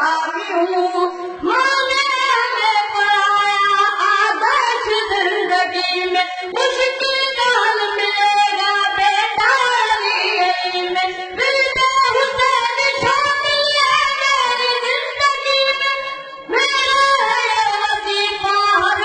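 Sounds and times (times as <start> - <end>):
boy singing into a microphone: 0.0 - 19.0.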